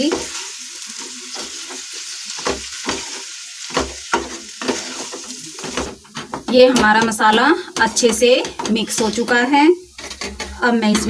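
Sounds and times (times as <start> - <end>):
potatoes sizzling in oil: 0.0 - 11.0
wooden spatula scraping pan: 0.1 - 11.0.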